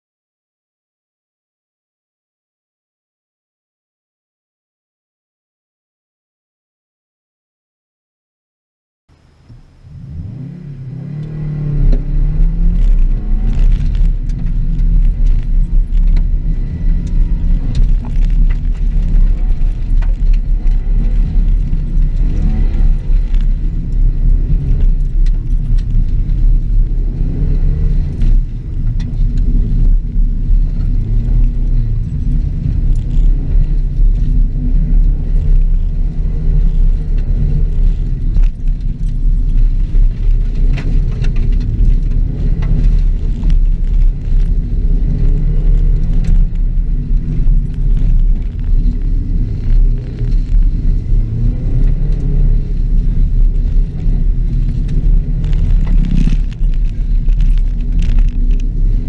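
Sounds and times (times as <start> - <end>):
car engine revving: 9.3 - 59.0.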